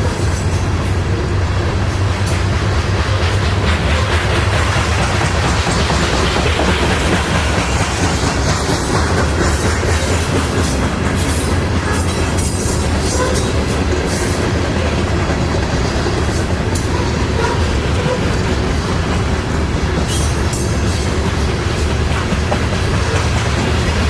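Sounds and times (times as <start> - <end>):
freight train rumbling past: 0.0 - 24.0
wheels clicking over rail joints: 0.0 - 24.0.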